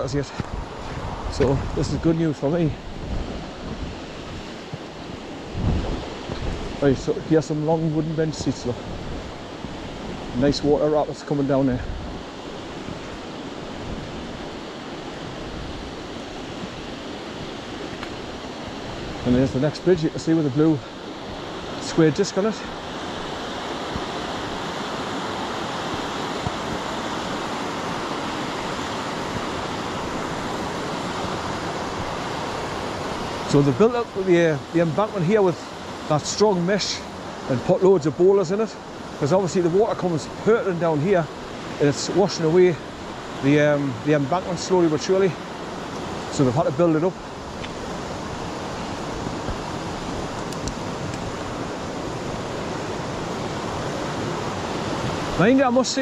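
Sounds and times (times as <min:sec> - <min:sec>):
river rapids rushing: 0:00.0 - 0:56.0.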